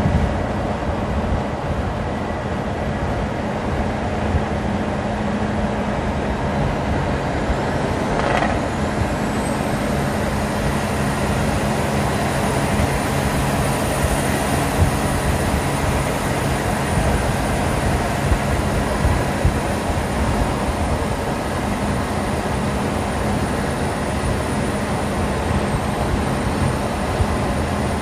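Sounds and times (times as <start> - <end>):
high whine: 0.0 - 28.0
road noise: 0.0 - 28.0
truck diesel engine droning: 0.0 - 28.0.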